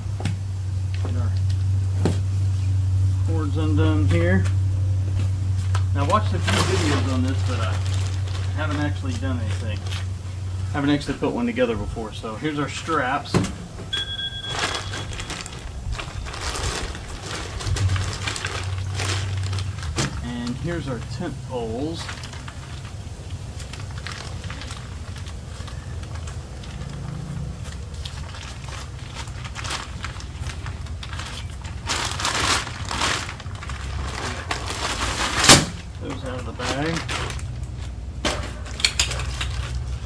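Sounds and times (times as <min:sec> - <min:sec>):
steady low hum: 0:00.0 - 0:40.0
tent parts rustling and clattering: 0:00.9 - 0:40.0.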